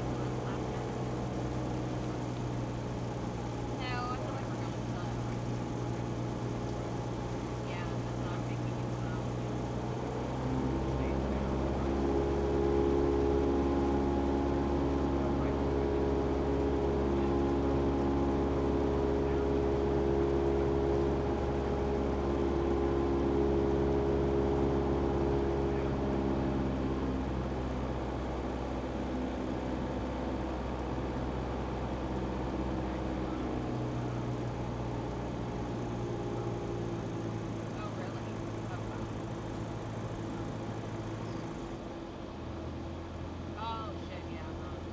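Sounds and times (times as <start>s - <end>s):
propeller aircraft engine droning: 0.0s - 44.9s.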